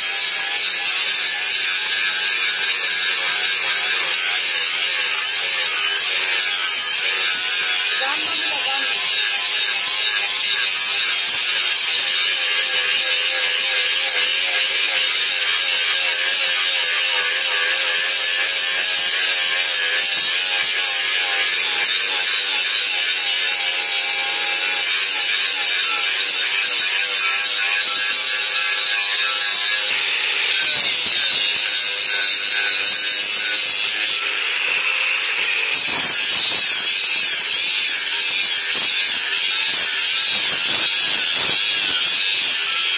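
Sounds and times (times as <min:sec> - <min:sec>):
angle grinder grinding steel: 0:00.0 - 0:42.9.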